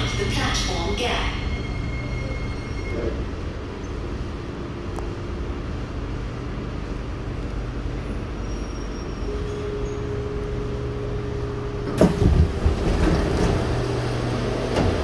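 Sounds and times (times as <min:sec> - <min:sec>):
train car hum and rumble: 0:00.0 - 0:15.0.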